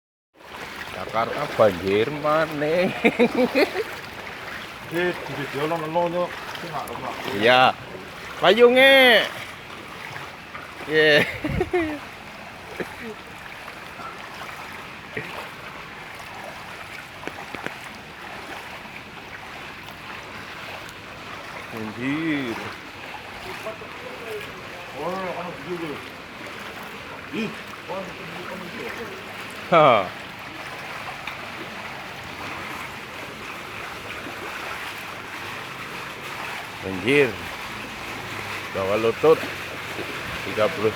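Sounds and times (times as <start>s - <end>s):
floodwater rushing: 0.4s - 40.9s
water splashes: 0.4s - 40.9s.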